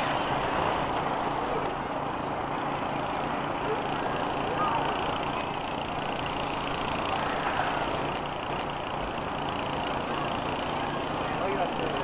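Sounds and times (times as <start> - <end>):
bus engines running: 0.0 - 12.0.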